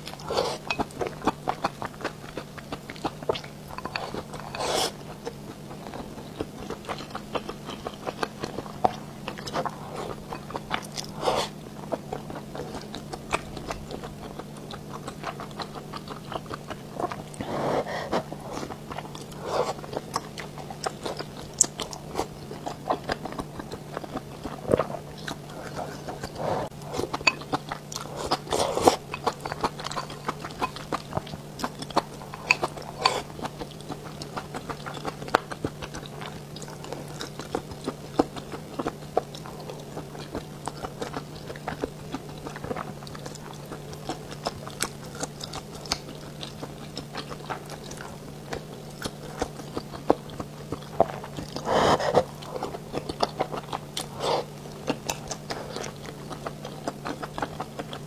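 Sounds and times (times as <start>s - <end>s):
biting and chewing food: 0.0s - 58.0s.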